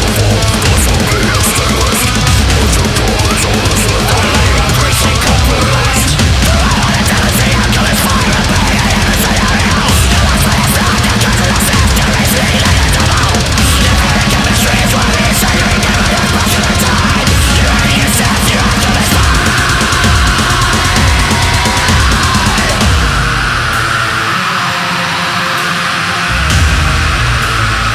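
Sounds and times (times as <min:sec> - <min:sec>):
death metal band playing: 0:00.0 - 0:27.9.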